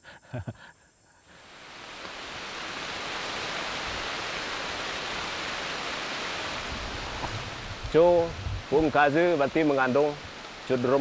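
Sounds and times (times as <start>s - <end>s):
rain falling on foliage: 1.4s - 11.0s.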